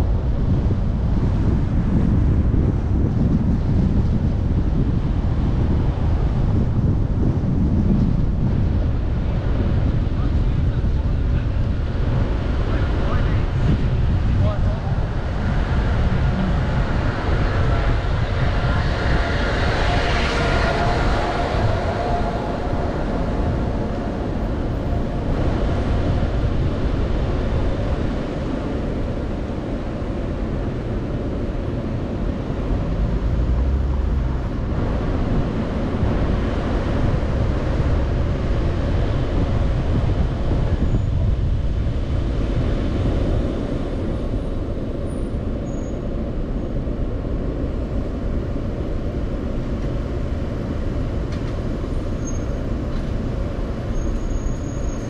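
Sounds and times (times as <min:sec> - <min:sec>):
car engine and tyre rumble: 0:00.0 - 0:55.0
surrounding traffic: 0:00.0 - 0:55.0.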